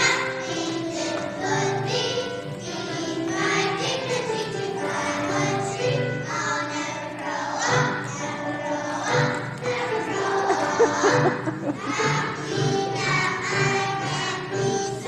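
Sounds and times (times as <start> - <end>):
musical accompaniment: 0.0 - 15.0
young children singing: 0.0 - 15.0.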